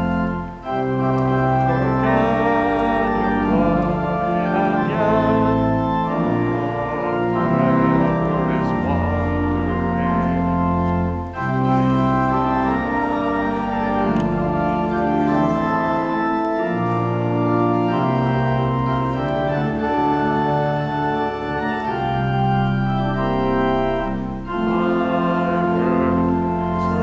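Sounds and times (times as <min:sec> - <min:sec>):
organ playing a hymn: 0:00.0 - 0:27.0.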